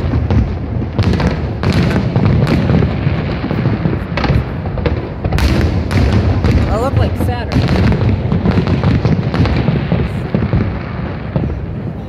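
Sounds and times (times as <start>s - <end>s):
fireworks booming: 0.0s - 12.0s
fireworks sharp cracks: 0.0s - 12.0s.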